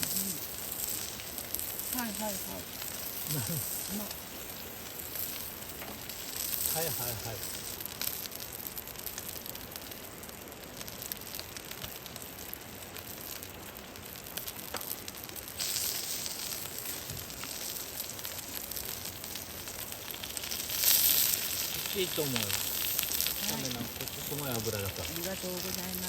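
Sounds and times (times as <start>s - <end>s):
fat crackling and popping: 0.0s - 26.0s
meat sizzling on a grill: 0.0s - 26.0s.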